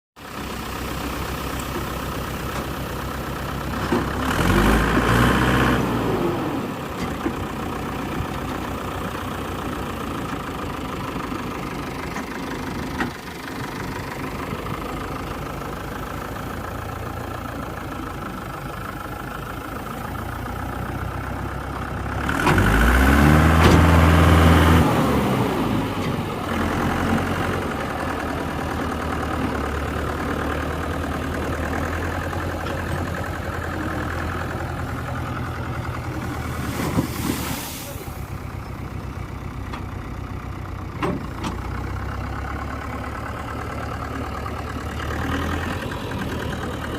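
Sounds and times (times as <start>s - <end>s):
tractor diesel engine idling: 0.2s - 46.9s
tractor engine revving: 0.2s - 46.9s.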